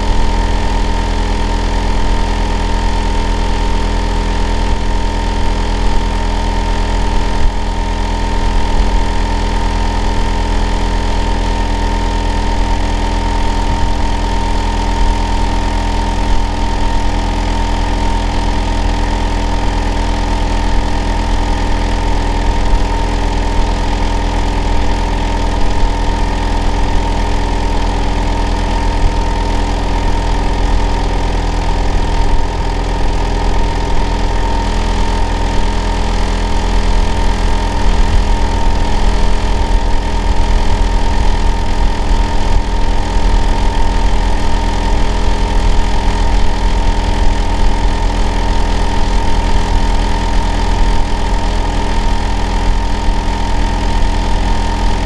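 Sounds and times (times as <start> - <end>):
air conditioner unit drone: 0.0 - 55.0
constant whine: 0.0 - 55.0.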